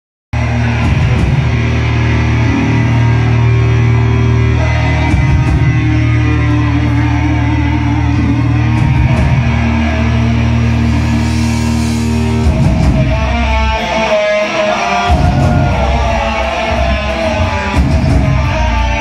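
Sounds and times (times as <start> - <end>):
bass guitar: 0.3 - 19.0
drums: 0.3 - 19.0
distorted electric guitars: 0.4 - 19.0.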